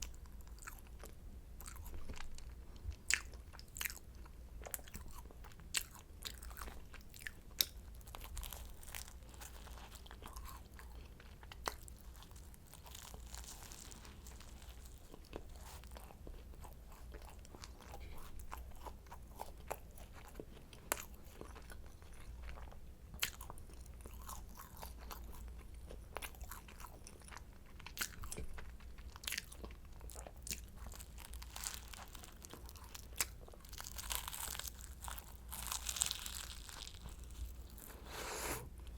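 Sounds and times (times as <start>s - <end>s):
pastry crunching in bites: 4.6s - 38.0s
chewing: 4.6s - 38.2s.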